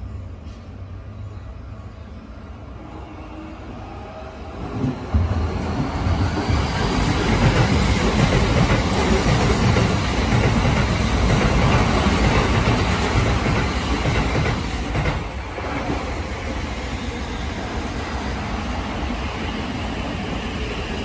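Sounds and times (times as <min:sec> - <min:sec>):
train arriving: 0:00.0 - 0:21.0
train rumble and rail noise: 0:00.0 - 0:21.0.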